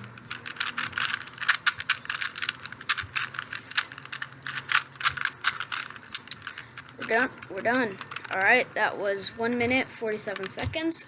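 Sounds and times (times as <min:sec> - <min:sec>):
plastic puzzle cube clicking: 0:00.0 - 0:08.7, 0:09.4 - 0:10.8.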